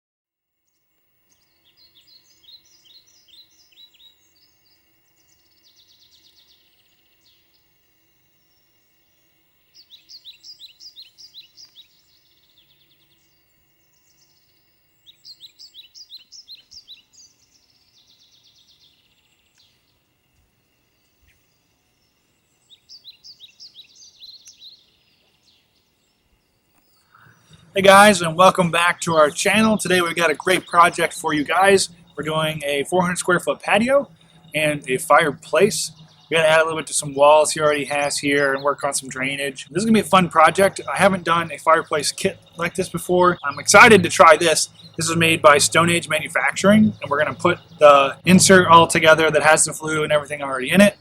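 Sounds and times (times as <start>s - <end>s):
outdoor background noise: 0.4s - 51.0s
songbird singing: 0.5s - 51.0s.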